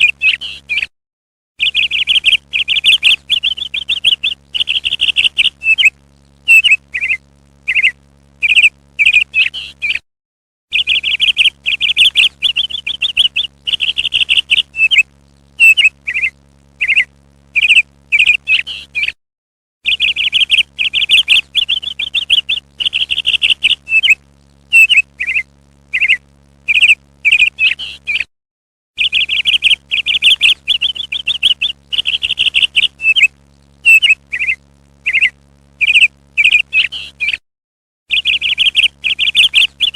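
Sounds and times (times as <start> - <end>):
parrot chirping: 1.6 - 10.0, 10.7 - 15.0, 15.6 - 19.2, 19.9 - 28.3, 29.0 - 37.4, 38.1 - 39.9.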